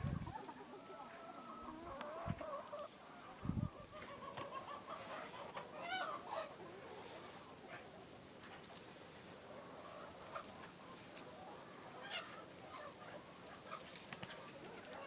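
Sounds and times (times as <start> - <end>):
hens clucking: 0.0 - 8.6, 9.2 - 15.0.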